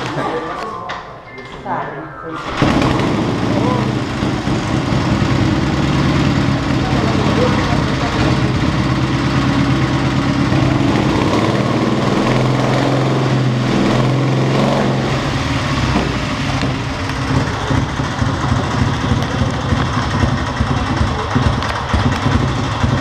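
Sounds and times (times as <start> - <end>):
motorcycle engine running: 2.6 - 23.0.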